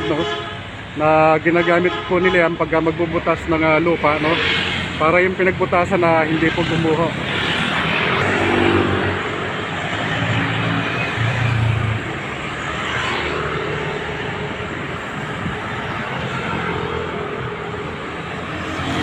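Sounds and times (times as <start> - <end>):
heavy engines humming: 0.0 - 19.0
road traffic: 0.0 - 19.0.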